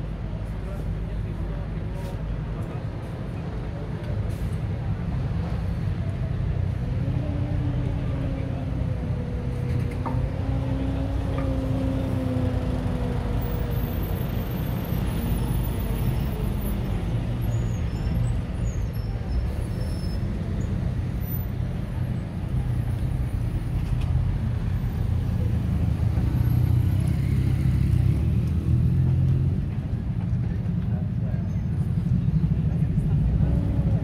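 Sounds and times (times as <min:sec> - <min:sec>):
street traffic rumble: 0:00.0 - 0:34.0
vehicle engine hum: 0:00.0 - 0:34.0.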